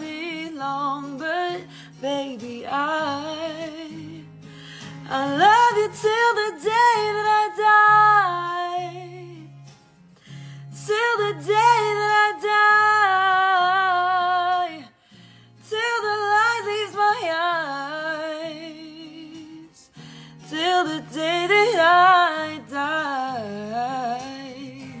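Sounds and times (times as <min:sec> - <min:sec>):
woman singing wordless melody: 0:00.0 - 0:04.4, 0:05.0 - 0:09.6, 0:10.6 - 0:15.0, 0:15.6 - 0:25.0.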